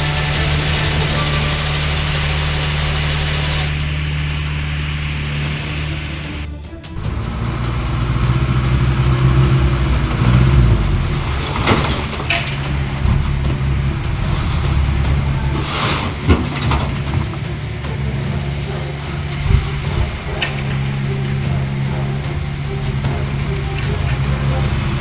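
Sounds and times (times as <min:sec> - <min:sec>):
heavy diesel engine running: 0:00.0 - 0:25.0
sharp knocks and clanks: 0:00.0 - 0:25.0.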